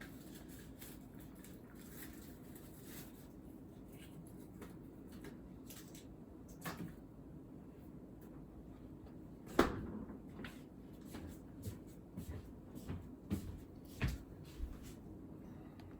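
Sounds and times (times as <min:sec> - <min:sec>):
faint low room hum: 0:00.0 - 0:15.9.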